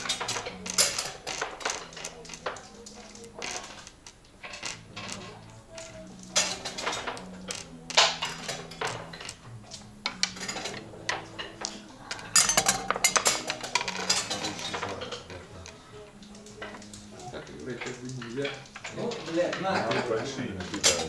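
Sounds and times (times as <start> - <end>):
faint background music: 0.0 - 21.0
wooden checkers clacking on board: 0.0 - 21.0.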